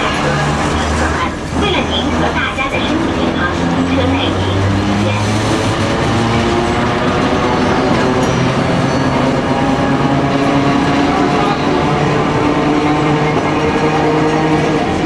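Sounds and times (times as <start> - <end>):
tram rumbling along rails: 0.0 - 15.0.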